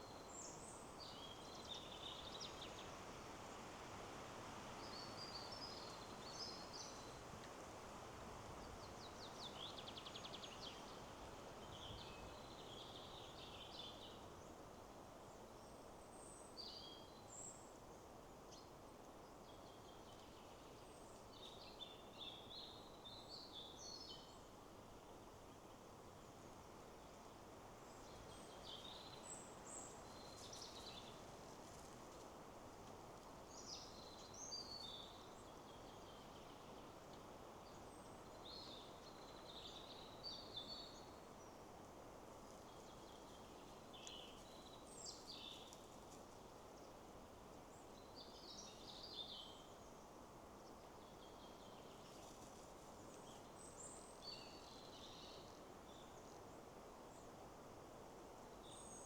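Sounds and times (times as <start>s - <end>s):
wind in trees: 0.0s - 59.0s
songbirds chirping: 8.6s - 32.0s, 32.9s - 59.0s.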